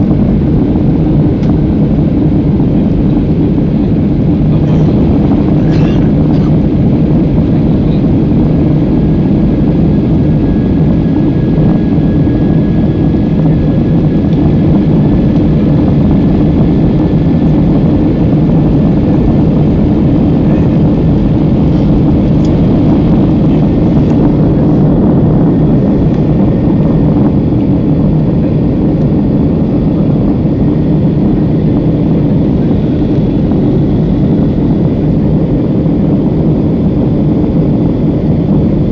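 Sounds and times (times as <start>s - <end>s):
airliner engines rumbling: 0.0s - 38.9s
faint engine whine: 0.0s - 38.9s.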